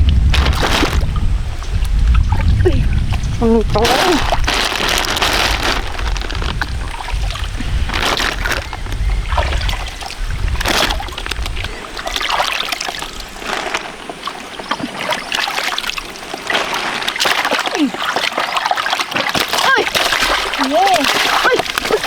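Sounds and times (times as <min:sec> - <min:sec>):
splashing in shallow muddy water: 0:00.0 - 0:22.0.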